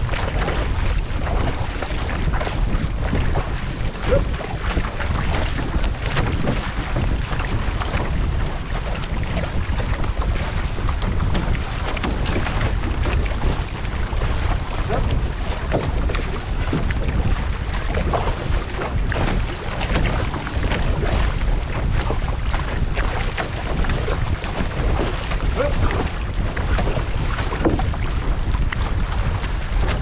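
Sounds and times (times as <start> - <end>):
paddles striking water: 0.0 - 30.0
water rushing and splashing: 0.0 - 30.0
wind buffeting microphone: 0.0 - 30.0.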